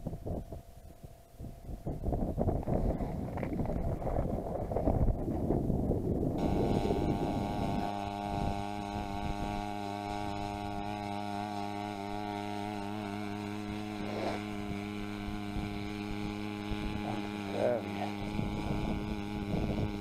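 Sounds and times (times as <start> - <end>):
low droning hum: 0.0 - 20.0.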